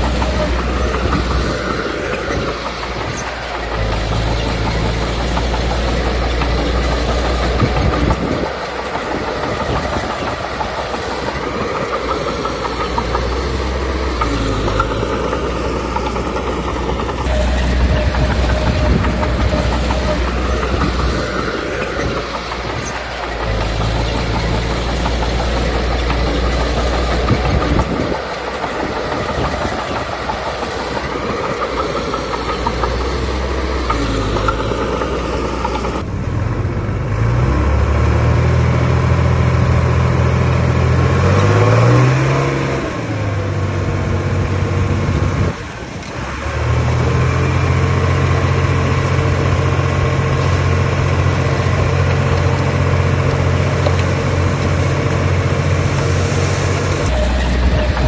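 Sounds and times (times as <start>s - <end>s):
diesel machinery engine revving: 0.0s - 58.0s.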